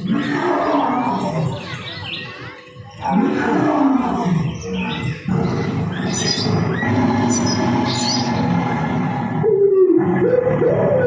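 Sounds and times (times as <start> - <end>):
recorded animal roars: 0.0 - 1.7, 3.0 - 11.0.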